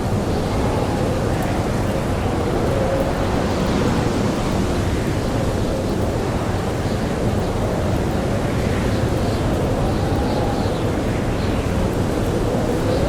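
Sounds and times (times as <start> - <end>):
blizzard wind roaring: 0.0 - 13.0.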